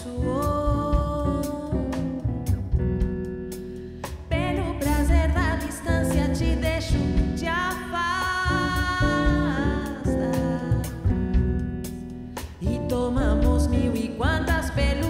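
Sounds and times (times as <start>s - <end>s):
woman singing: 0.0s - 2.6s, 4.2s - 11.8s, 12.4s - 15.0s
acoustic guitar: 0.0s - 15.0s.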